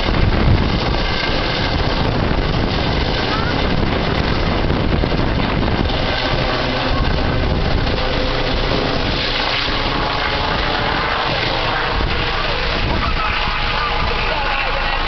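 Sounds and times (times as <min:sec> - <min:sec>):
helicopter rotor and turbine: 0:00.0 - 0:15.0
wind buffeting microphone: 0:00.0 - 0:15.0.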